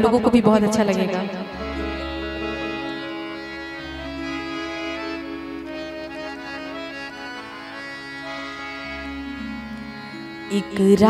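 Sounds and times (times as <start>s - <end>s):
harmonium playing: 0.0s - 11.0s.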